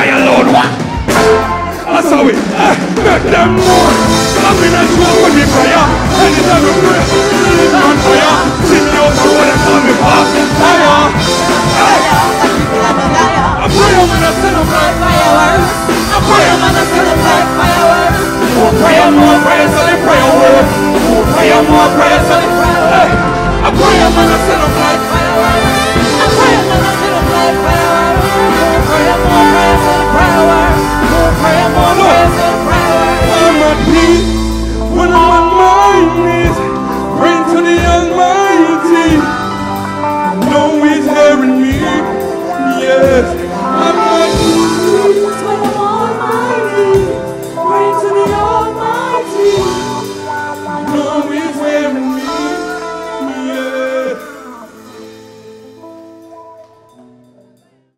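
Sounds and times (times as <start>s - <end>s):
person singing: 0.0s - 55.9s
gospel band playing: 0.0s - 57.9s.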